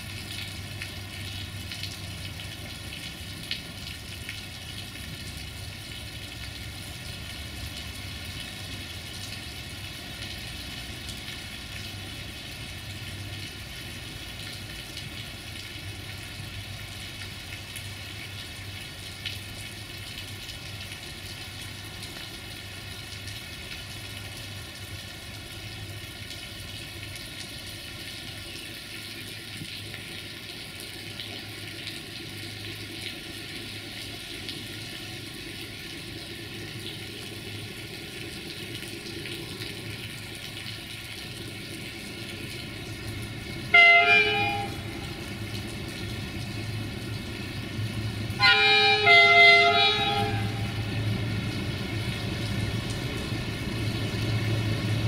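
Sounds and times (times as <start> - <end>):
diesel engine hum: 0.0 - 55.0
rain hiss: 0.0 - 55.0.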